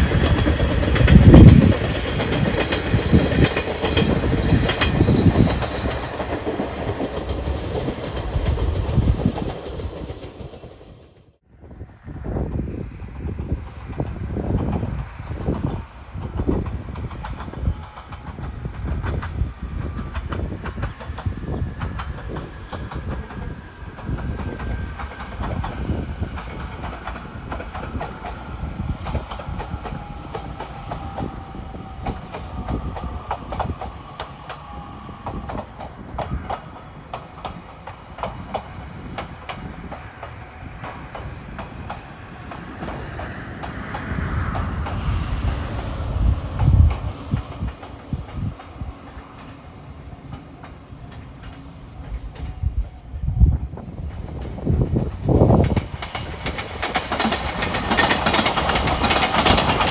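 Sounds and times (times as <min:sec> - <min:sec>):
train wheels clicking over rail joints: 0:00.0 - 0:11.2, 0:13.9 - 0:31.4, 0:32.0 - 0:52.7, 0:53.5 - 0:59.9
faint train whine: 0:00.0 - 0:59.9.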